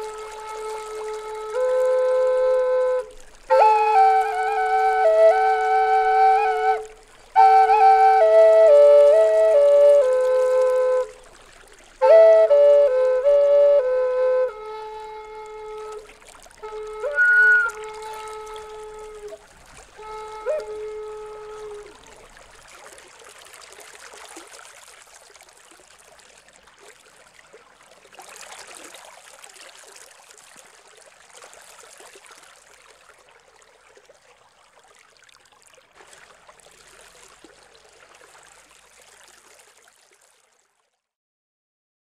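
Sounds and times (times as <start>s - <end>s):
stream water rushing: 0.0s - 40.6s.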